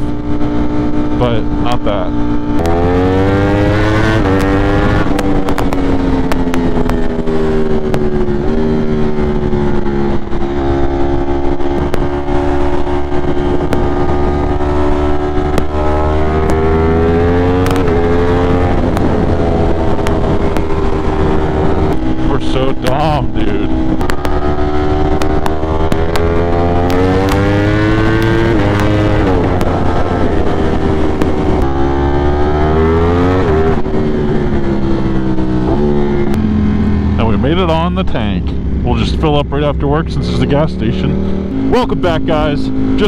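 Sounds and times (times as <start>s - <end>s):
wind rush on microphone: 0.0s - 40.1s
motorcycle engine at speed: 0.0s - 43.0s.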